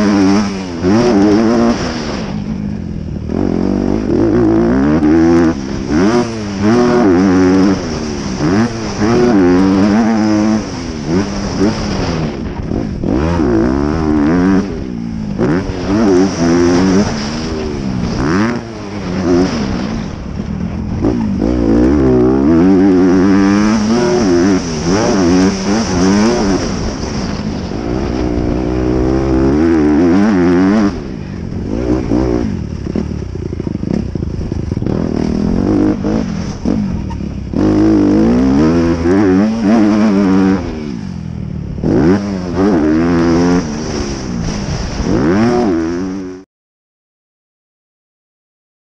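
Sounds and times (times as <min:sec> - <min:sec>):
motorcycle engine revving: 0:00.0 - 0:46.4.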